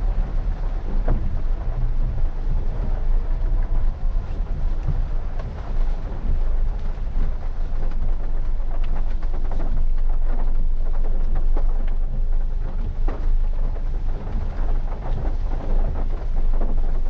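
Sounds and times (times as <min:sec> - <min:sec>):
car and tyres rumbling: 0:00.0 - 0:17.0.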